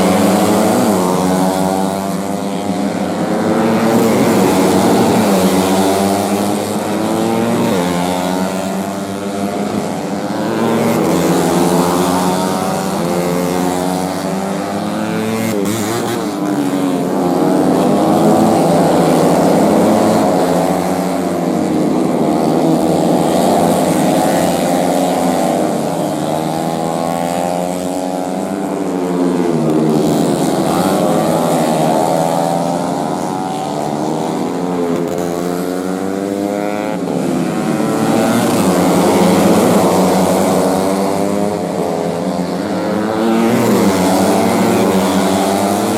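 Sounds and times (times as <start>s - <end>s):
motorcycles revving high: 0.0s - 45.9s.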